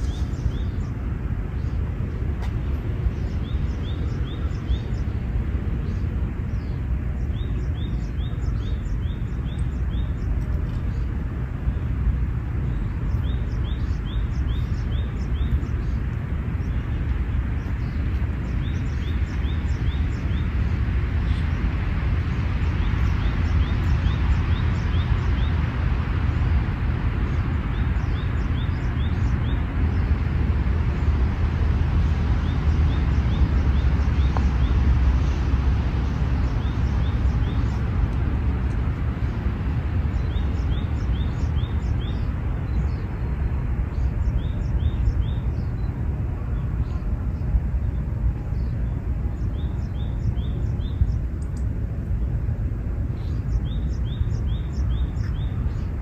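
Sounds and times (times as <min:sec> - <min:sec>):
bird chirping: 0:00.0 - 0:11.9, 0:12.6 - 0:52.4, 0:53.1 - 0:56.0
low rumble and hiss: 0:00.0 - 0:56.0.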